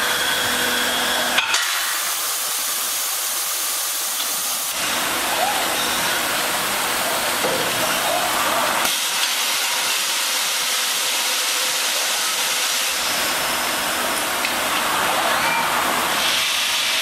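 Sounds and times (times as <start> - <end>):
loud machinery hiss: 0.0 - 17.0.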